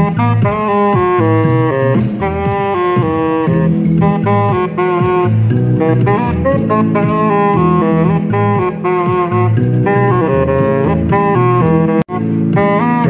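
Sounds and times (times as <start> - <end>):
backing track with bass line: 0.0 - 13.0
saxophone jazzy melody: 0.0 - 13.0.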